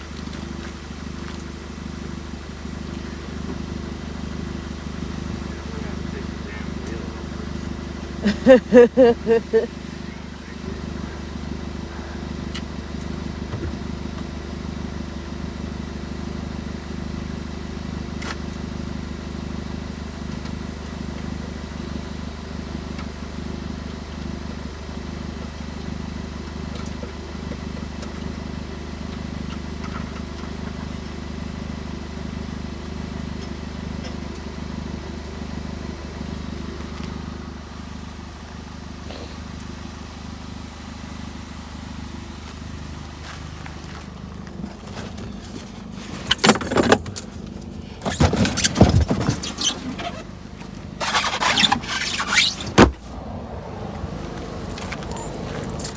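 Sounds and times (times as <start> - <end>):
vehicle engine idling: 0.0 - 55.9.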